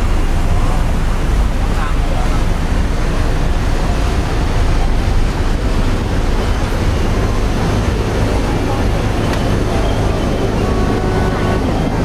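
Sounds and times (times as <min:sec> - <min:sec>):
boat engine droning: 0:00.0 - 0:12.0
river water rushing: 0:00.0 - 0:12.0
wind buffeting microphone: 0:00.0 - 0:12.0.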